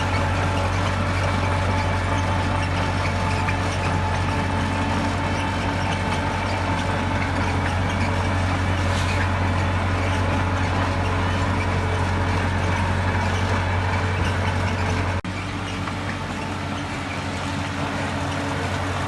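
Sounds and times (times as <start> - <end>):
diesel machinery engine drone: 0.0 - 19.0.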